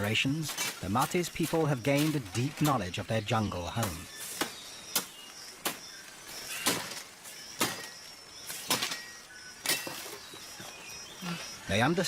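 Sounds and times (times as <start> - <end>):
faint high-pitched forest calls: 0.0 - 12.0.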